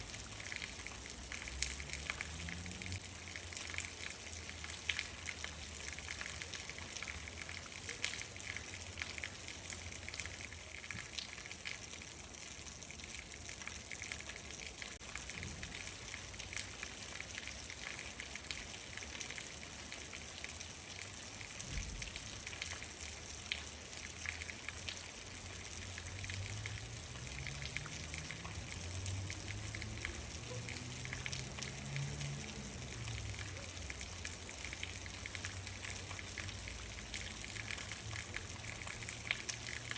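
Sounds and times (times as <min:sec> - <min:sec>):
raindrops ticking: 0:00.0 - 0:39.9
steady rain falling: 0:00.0 - 0:39.9.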